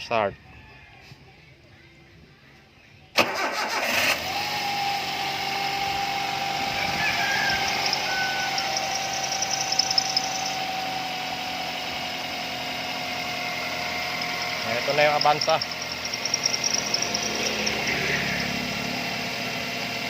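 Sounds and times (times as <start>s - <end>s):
car engine idling: 3.2s - 20.0s
engine whine: 3.2s - 20.0s.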